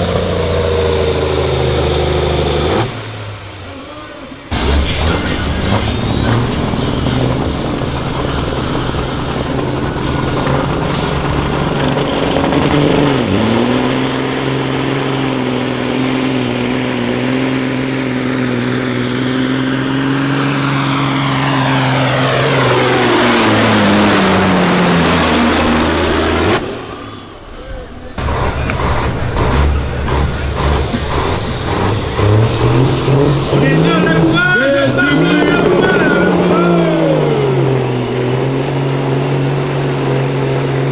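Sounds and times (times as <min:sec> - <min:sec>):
high turbo whistle: 0:00.0 - 0:13.7, 0:19.6 - 0:40.2
truck diesel engine at full throttle: 0:00.0 - 0:40.9.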